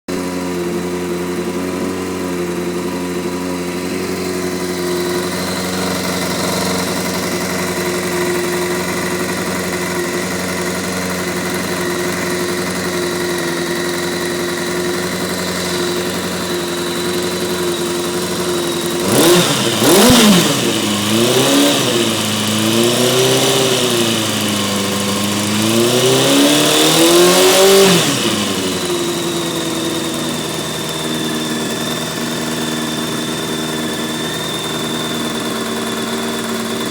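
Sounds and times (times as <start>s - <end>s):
motorcycle engine idling: 0.1s - 36.9s
motorcycle engine revving: 0.1s - 36.9s.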